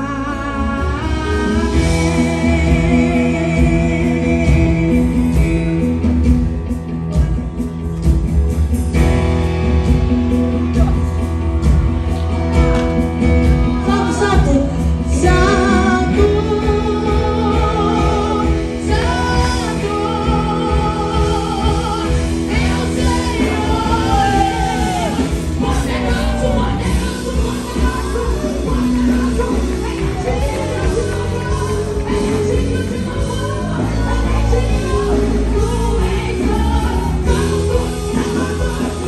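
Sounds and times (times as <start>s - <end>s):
woman singing gospel: 0.0s - 6.6s, 13.6s - 39.0s
instrumental backing with drums: 0.8s - 39.0s.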